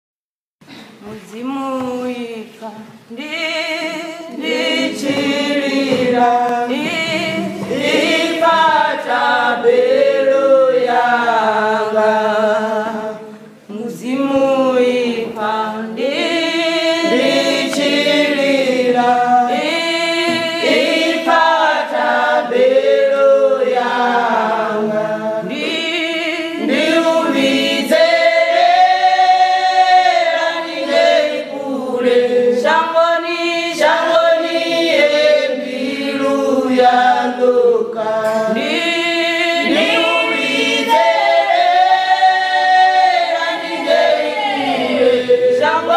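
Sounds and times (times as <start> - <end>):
women's choir singing a cappella: 1.4 - 45.9.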